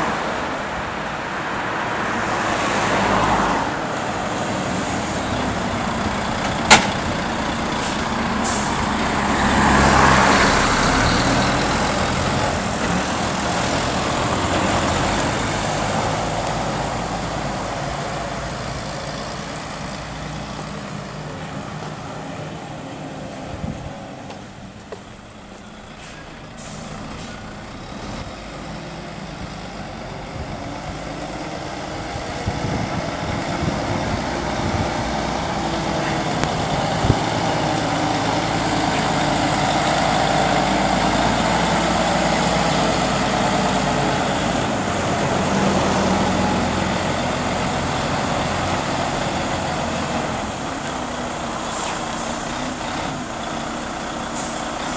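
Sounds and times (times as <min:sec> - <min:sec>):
truck diesel engine idling: 0:04.5 - 0:15.8, 0:16.4 - 0:54.9.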